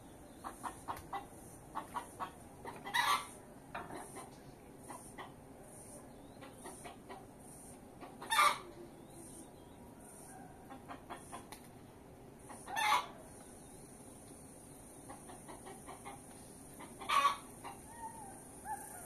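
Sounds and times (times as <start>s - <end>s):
chickens clucking: 0.0s - 9.4s, 10.0s - 11.8s, 12.4s - 13.5s, 14.8s - 18.8s.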